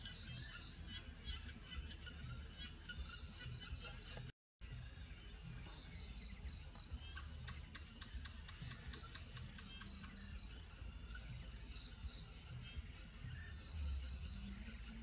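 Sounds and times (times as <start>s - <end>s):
insects chirping: 0.0s - 15.0s
low steady rumble: 0.0s - 15.0s.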